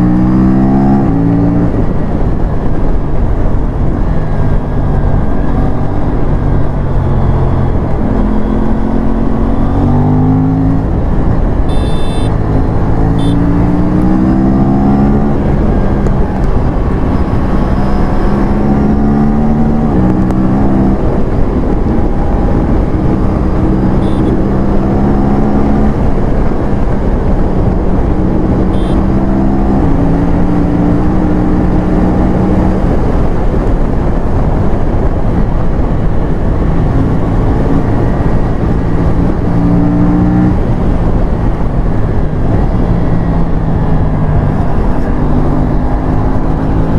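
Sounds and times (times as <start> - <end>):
motorcycle engine accelerating: 0.0 - 46.9
wind rush: 0.0 - 46.9.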